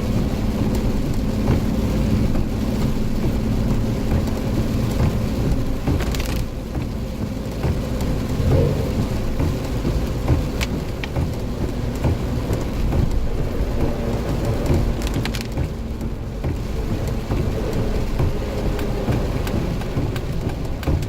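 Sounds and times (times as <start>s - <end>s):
sharp ticks and splashes: 0.0s - 21.0s
vehicle engine rumble: 0.0s - 21.0s.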